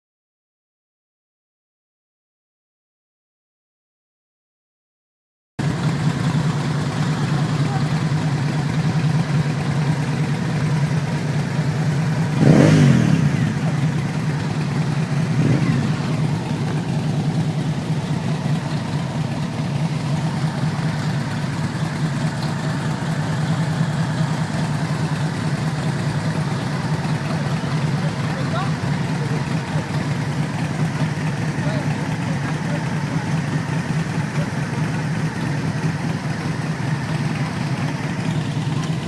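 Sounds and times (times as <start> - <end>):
motorcycle engine revving: 5.6 - 39.0
motorcycle engines idling: 5.6 - 39.0.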